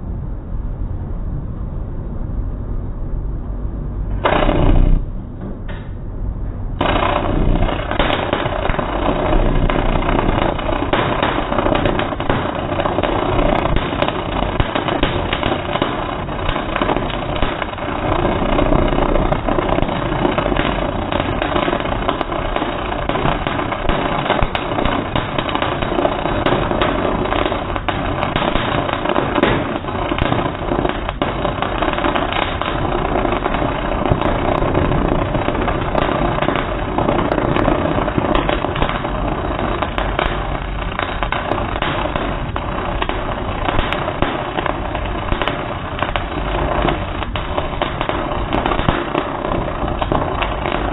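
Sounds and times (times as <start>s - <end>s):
slowed arc welding rumble: 0.0s - 50.9s.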